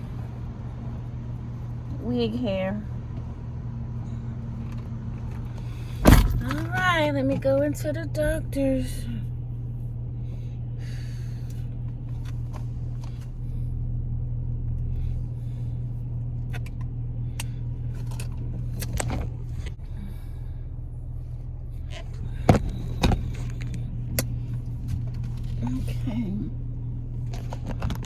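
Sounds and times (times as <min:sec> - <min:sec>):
car engine running inside cabin: 0:00.0 - 0:28.0.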